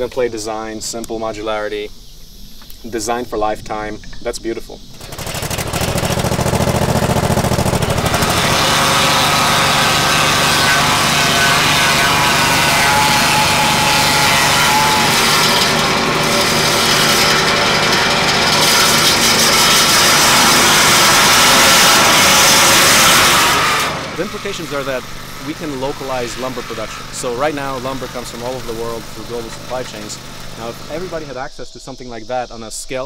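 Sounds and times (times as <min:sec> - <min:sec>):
sawmill machinery running: 0:04.9 - 0:31.4.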